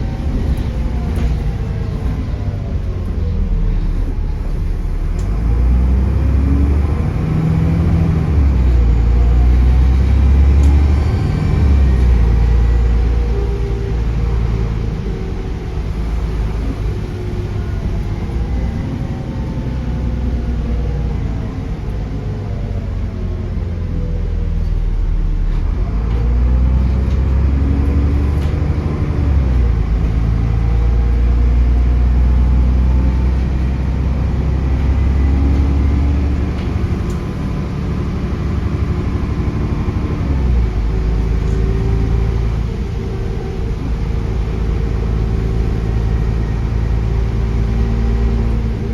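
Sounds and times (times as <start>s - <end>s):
diesel bus engine: 0.0s - 48.9s.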